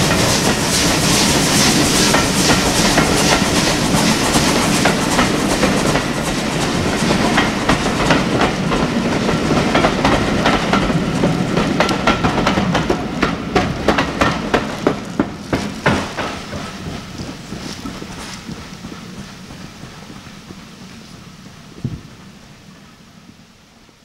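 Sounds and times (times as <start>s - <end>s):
train wheels clicking over rail joints: 0.0s - 24.0s.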